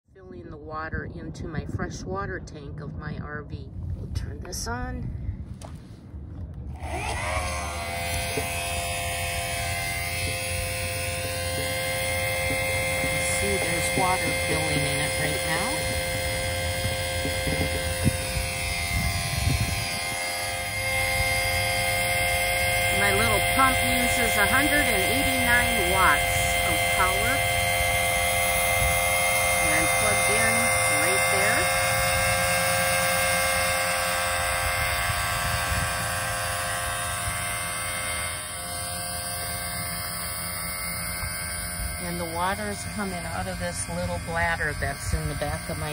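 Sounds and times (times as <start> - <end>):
electric water pump humming: 4.5 - 45.9.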